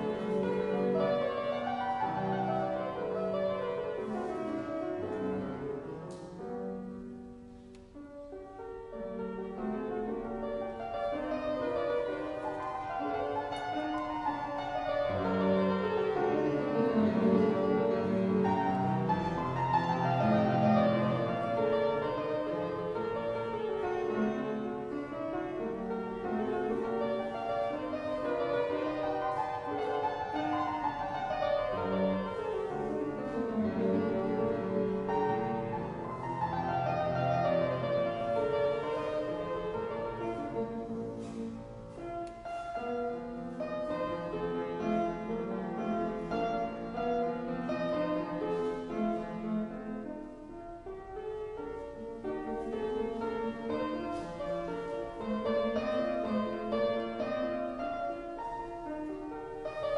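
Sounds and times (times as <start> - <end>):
fortepiano playing: 0.0 - 59.9.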